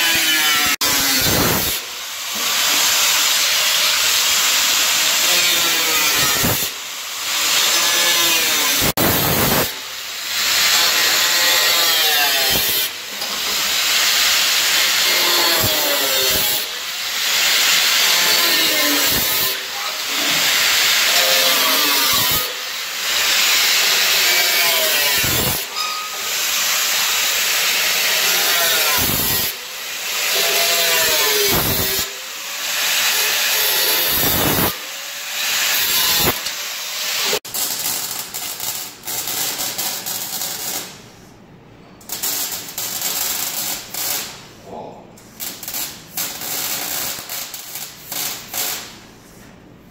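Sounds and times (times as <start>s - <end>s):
angle grinder cutting sheet steel: 0.0s - 41.0s
welder crackling: 0.0s - 41.1s, 42.0s - 44.5s, 45.2s - 49.1s.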